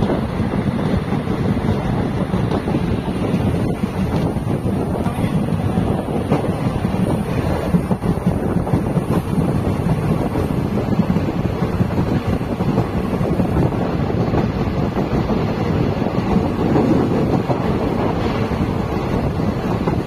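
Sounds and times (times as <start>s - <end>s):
train coach on track: 0.0s - 20.0s
wind noise on microphone: 0.0s - 20.0s.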